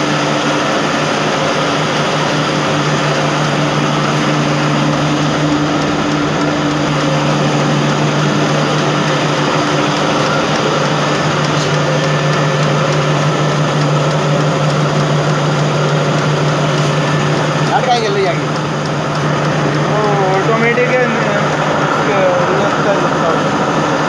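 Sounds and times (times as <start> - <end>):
low electric motor hum: 0.0 - 24.0
mill machinery mechanical drone: 0.0 - 24.0.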